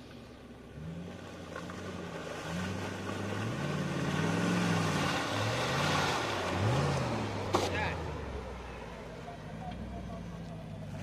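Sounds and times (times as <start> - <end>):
suv engine revving: 0.1 - 11.0.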